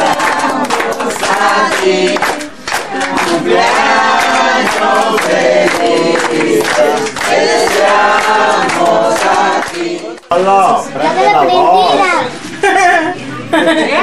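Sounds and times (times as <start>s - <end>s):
group singing birthday song: 0.0s - 11.4s.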